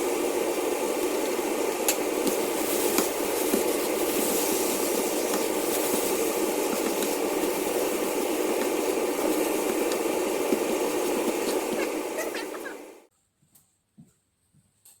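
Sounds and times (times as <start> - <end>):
pan simmering hiss: 0.0 - 13.1.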